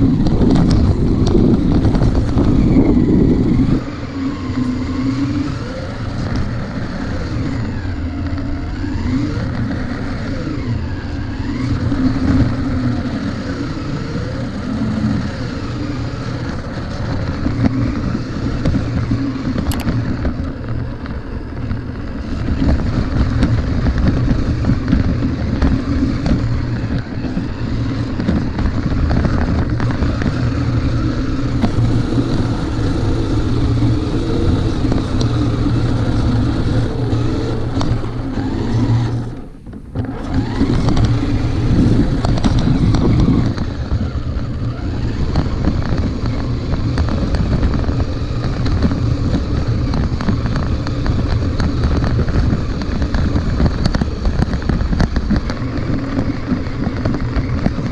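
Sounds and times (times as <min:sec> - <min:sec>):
toy truck motor whirring: 0:00.2 - 0:57.9.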